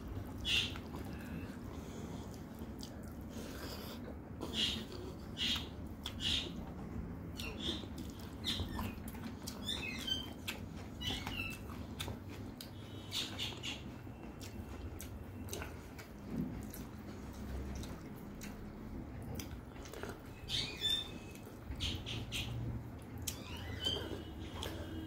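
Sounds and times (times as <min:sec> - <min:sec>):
chewing with wet lip smacks: 0:00.0 - 0:25.0.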